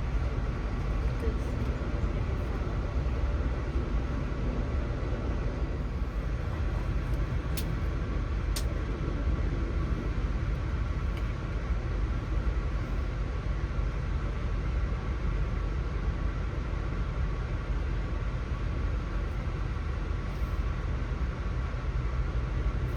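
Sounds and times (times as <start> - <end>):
train wheels rumbling on track: 0.0 - 22.9.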